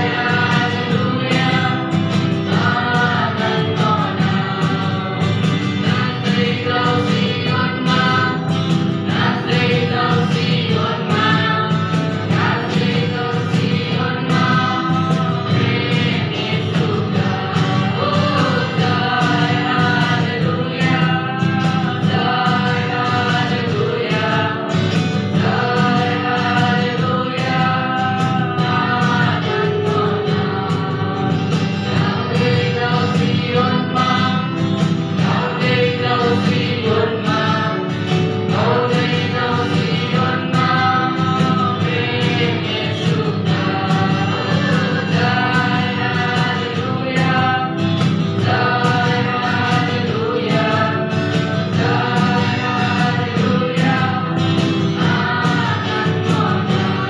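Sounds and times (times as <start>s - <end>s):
cajon beat: 0.0s - 57.0s
keyboard: 0.0s - 57.0s
strummed acoustic guitar: 0.0s - 57.0s
young voices singing in unison: 0.0s - 57.0s.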